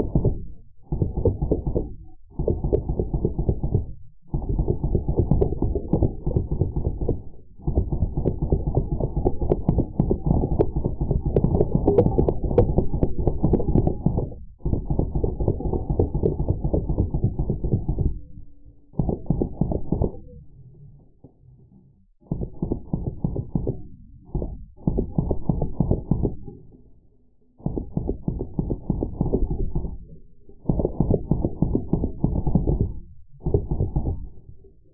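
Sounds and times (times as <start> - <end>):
slowed machine gun bursts: 0.0 - 18.3, 19.0 - 20.2, 22.3 - 26.4, 27.6 - 34.4.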